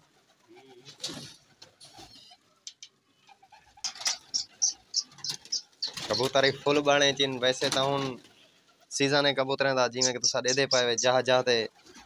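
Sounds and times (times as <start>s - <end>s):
pigeons cooing: 0.0s - 9.2s, 9.9s - 12.0s
wings flapping: 0.0s - 12.0s.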